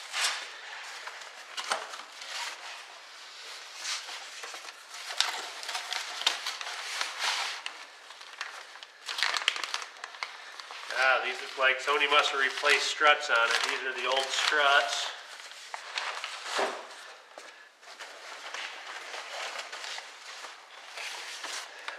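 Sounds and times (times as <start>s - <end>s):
plastic and paper wrapping crinkling: 0.0s - 21.9s.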